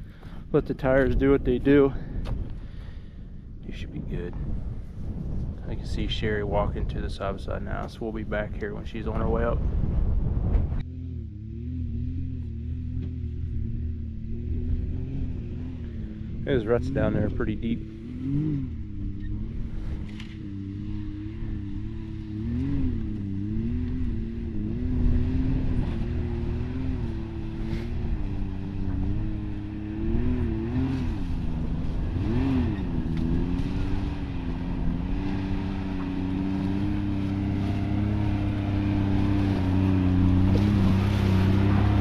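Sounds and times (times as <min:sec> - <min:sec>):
utility vehicle engine revving: 0:06.9 - 0:42.0.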